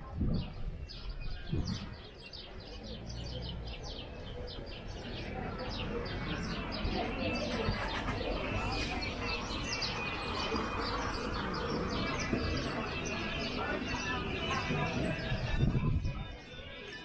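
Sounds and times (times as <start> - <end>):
steady background noise: 0.0 - 17.0
small birds chirping: 0.1 - 17.0.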